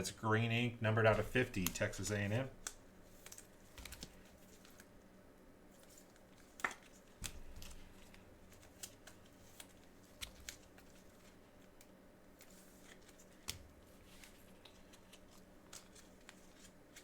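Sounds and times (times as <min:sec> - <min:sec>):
trading cards clicking and rustling: 0:01.1 - 0:04.9, 0:05.8 - 0:17.0.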